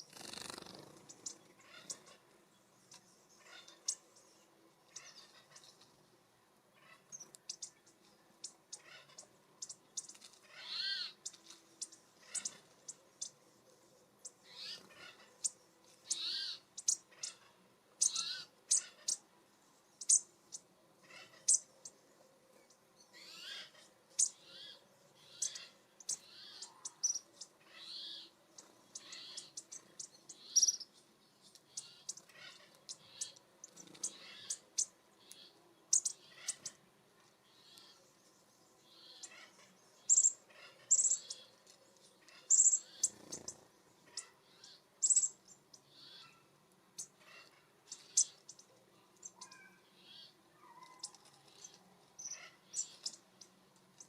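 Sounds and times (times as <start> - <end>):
small birds calling: 0.0 - 54.0.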